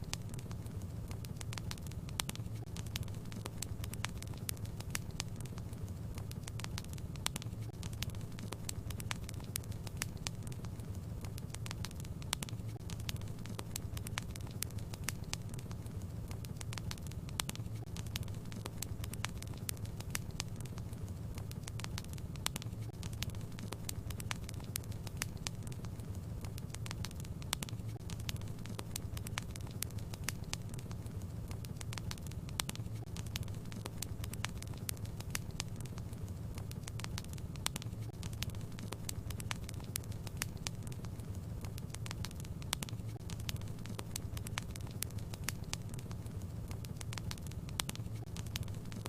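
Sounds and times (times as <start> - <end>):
low rumble of burning logs: 0.0 - 49.0
wood fire crackling: 0.0 - 49.0.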